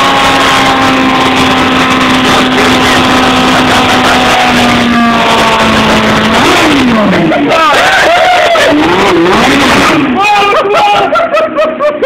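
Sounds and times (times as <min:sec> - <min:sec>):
motorcycle engine at high revs: 0:00.0 - 0:10.2.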